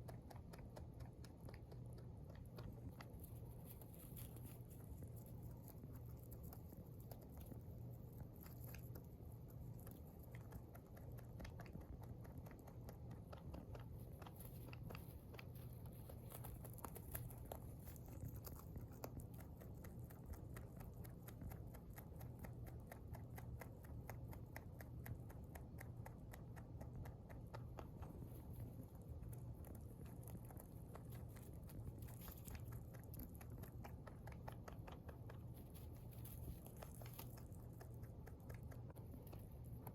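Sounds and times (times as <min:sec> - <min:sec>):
rabbit chewing hay: 0:00.0 - 0:39.9.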